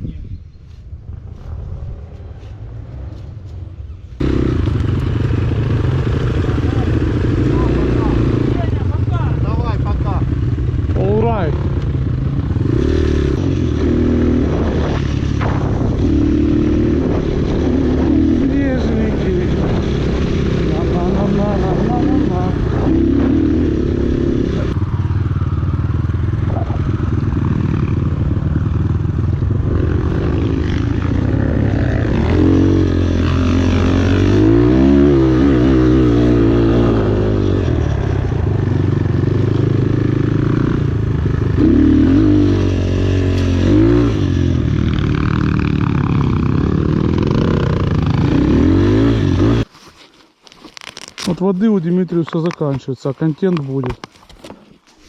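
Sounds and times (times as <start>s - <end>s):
motorcycle engine revving: 1.0s - 49.7s.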